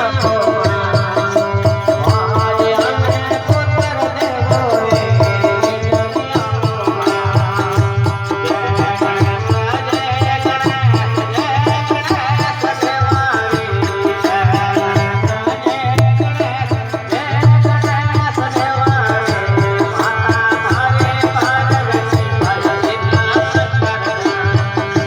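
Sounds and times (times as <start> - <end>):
hand drum rhythm: 0.0 - 25.0.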